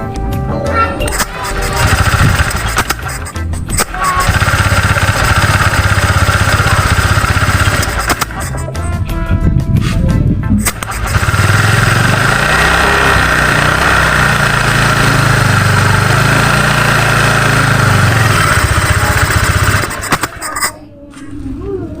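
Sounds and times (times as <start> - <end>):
scooter engine starting and running: 0.7 - 8.8, 10.6 - 20.7.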